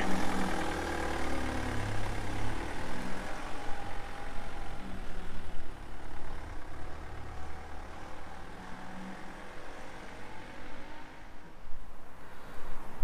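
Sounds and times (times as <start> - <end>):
van engine driving away: 0.0 - 11.6.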